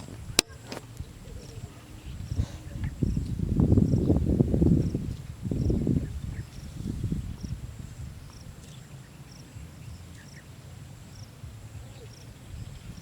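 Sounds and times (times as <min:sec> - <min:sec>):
insect chirping: 0:00.0 - 0:13.0
low rumbling background noise: 0:00.0 - 0:13.0.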